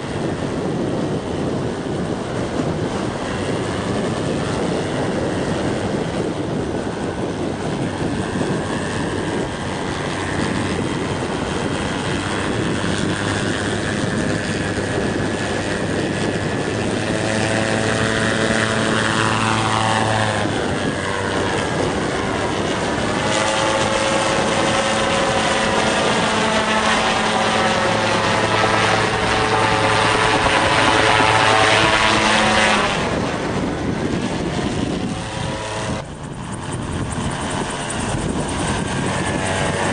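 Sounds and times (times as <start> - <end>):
gyrocopter engine and propeller: 0.0 - 39.9
wind noise on microphone: 0.0 - 39.9.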